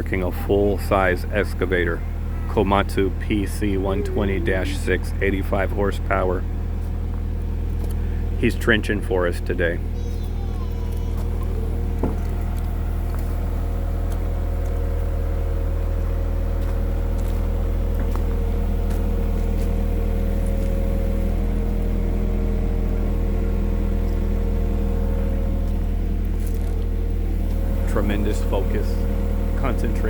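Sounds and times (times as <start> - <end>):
excavator diesel engine drone: 0.0 - 30.0
thin steady whine: 0.0 - 30.0.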